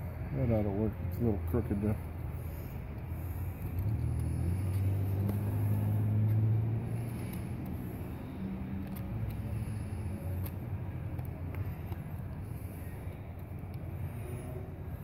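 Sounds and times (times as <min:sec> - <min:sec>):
vehicle engine running: 0:00.8 - 0:15.0.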